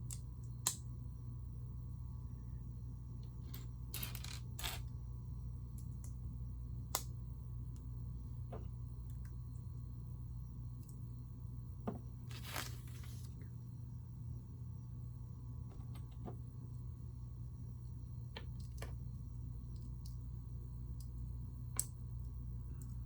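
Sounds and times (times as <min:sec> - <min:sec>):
low hum: 0:00.1 - 0:23.0.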